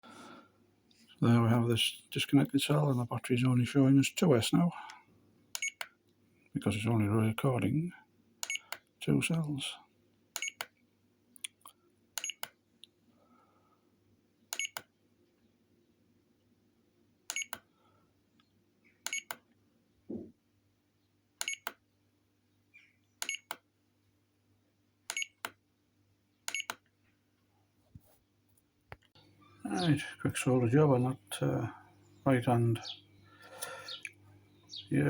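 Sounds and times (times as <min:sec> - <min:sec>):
faint steady hum: 0:00.1 - 0:35.0.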